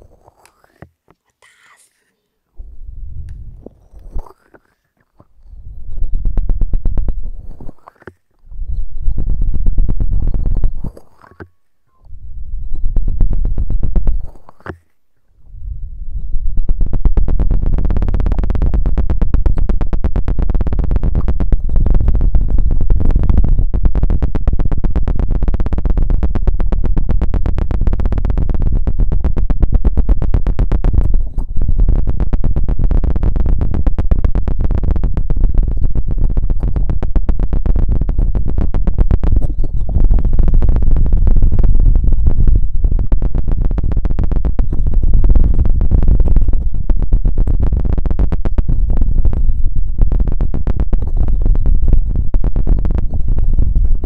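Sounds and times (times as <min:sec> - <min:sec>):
rod scratching microphone: 0:00.0 - 0:11.6, 0:12.2 - 0:54.0.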